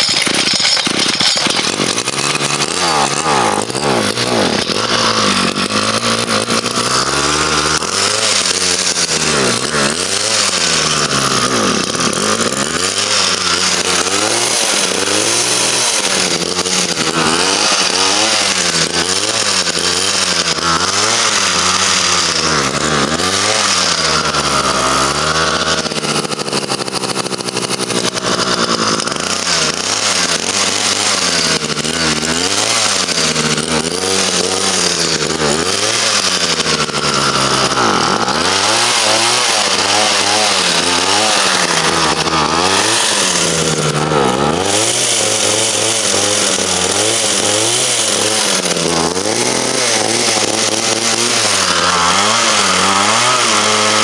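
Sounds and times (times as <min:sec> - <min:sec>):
hedge cutter engine revving: 0:00.0 - 0:54.0.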